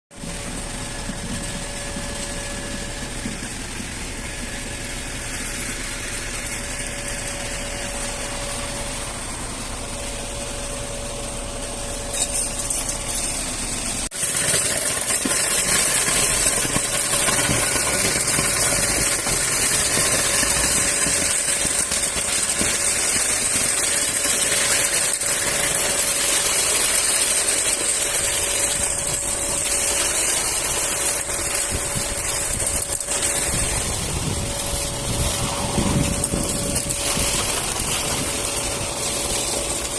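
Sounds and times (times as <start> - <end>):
machinery engine running: 0.1 - 39.9
steady whine: 0.1 - 39.9.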